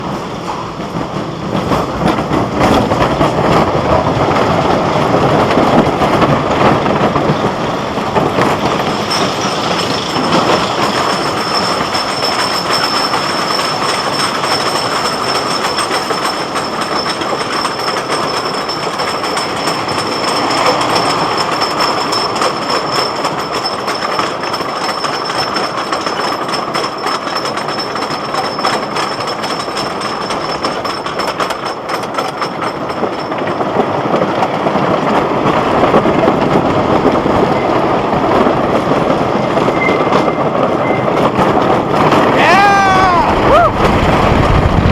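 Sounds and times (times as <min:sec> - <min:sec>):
roller coaster wheels rumbling on wood: 0:00.0 - 0:44.9.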